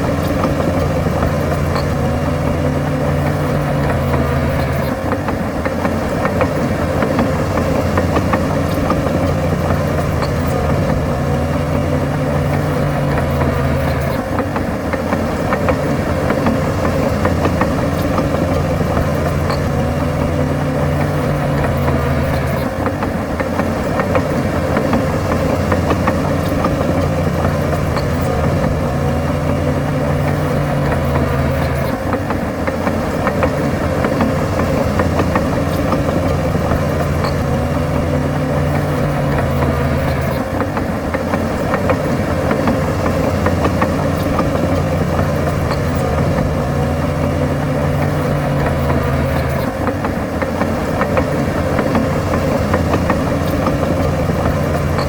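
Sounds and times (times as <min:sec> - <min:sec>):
bulldozer diesel engine: 0:00.0 - 0:55.0
faint clicks and clanks: 0:00.0 - 0:55.0.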